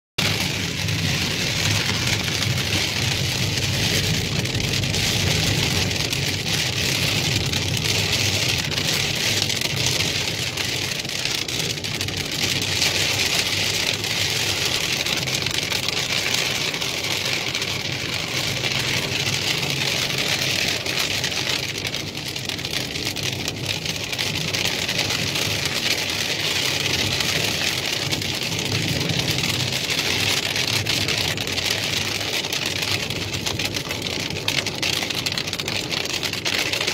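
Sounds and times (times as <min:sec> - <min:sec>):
heavy rain on a car: 0:00.2 - 0:36.9
low road rumble: 0:00.2 - 0:36.9.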